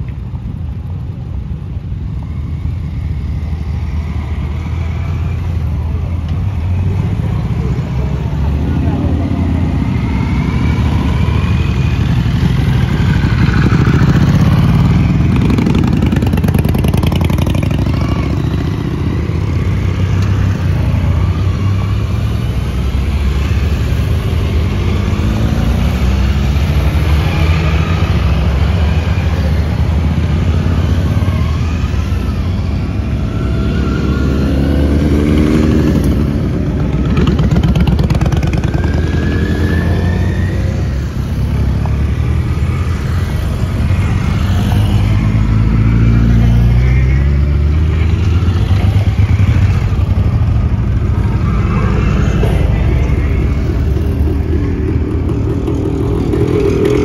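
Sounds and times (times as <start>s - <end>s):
motorcycles riding past: 0.0s - 57.0s
motorcycle engine revving: 3.4s - 57.0s.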